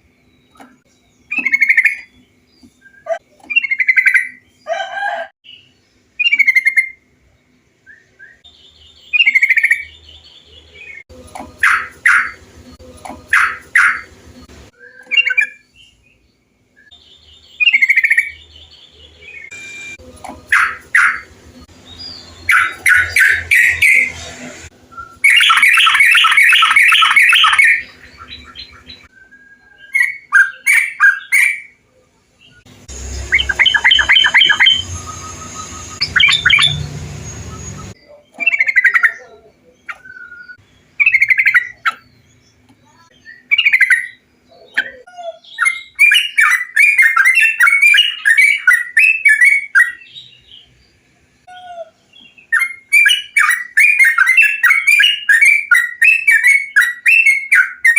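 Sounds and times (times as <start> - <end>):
bulbuls singing: 0.0 - 57.9.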